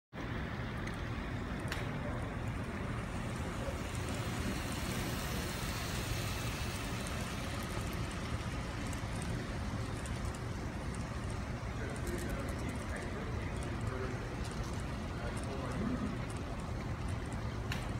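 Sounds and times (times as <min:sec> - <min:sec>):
model train whirring and rattling: 0:00.4 - 0:17.9.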